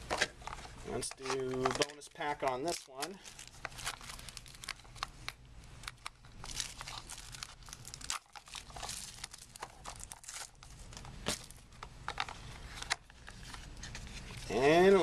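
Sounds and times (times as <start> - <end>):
wrapper tearing and crinkling: 1.0 - 15.0.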